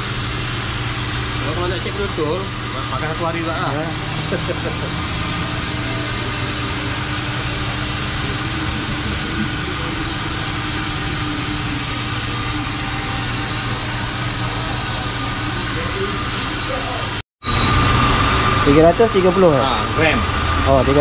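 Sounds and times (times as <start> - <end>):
car engine idling: 0.0 - 17.2, 18.1 - 21.0.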